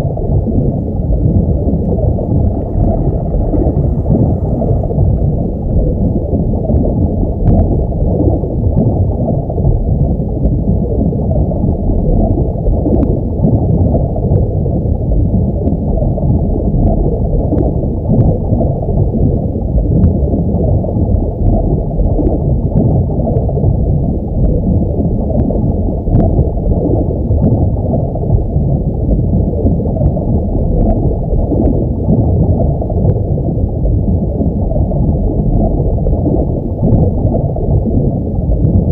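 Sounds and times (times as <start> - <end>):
muffled underwater rumble: 0.0 - 38.9.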